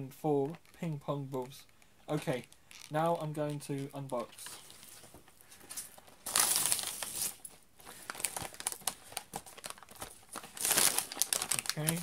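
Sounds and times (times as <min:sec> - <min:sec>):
plastic packaging crinkling and tearing: 0:00.4 - 0:12.0.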